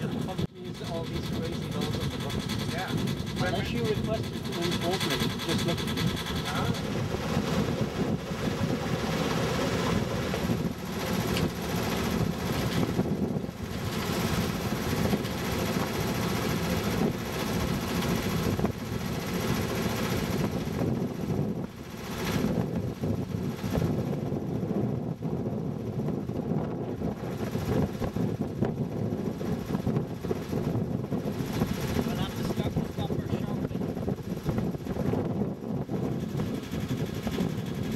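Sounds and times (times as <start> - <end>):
boat engine running: 0.0 - 37.9.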